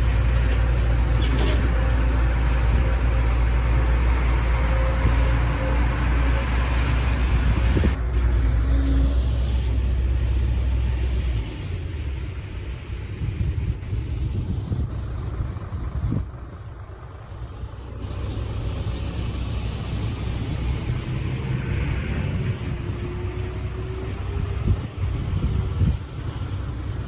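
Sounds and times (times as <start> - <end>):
diesel construction machinery rumbling: 0.0 - 27.0.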